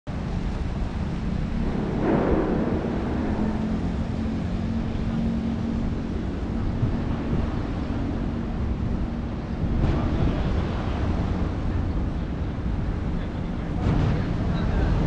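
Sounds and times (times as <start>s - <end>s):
low city rumble: 0.1s - 15.0s
steady low hum: 0.1s - 15.0s
wind buffeting microphone: 0.1s - 15.0s.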